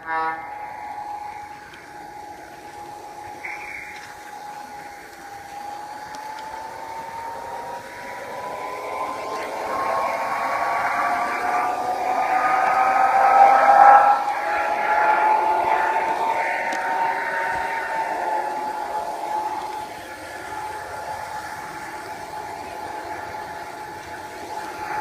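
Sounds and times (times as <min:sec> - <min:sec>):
model train motor whine: 0:00.0 - 0:25.0
wheels rattling on rails: 0:00.0 - 0:25.0.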